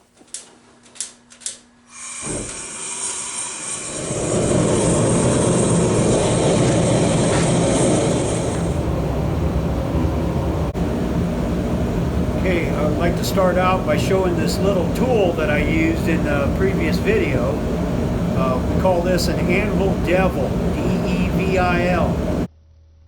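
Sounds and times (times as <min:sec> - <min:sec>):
forge roaring: 0:02.3 - 0:22.5.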